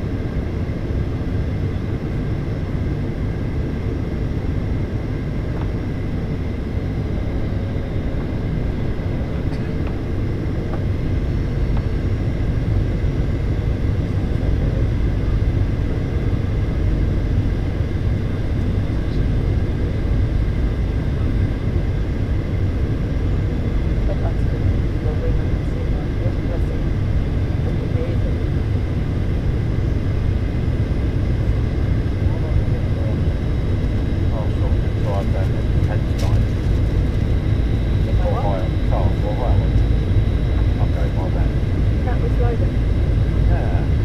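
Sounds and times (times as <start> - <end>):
airplane cabin engine rush: 0.0 - 44.0.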